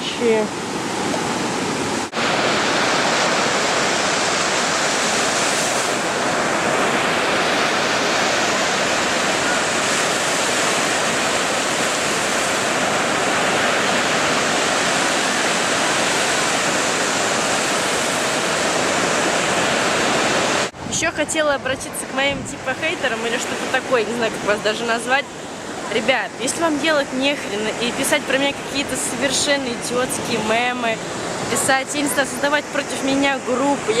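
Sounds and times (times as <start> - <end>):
sea surf rushing: 0.0 - 34.0.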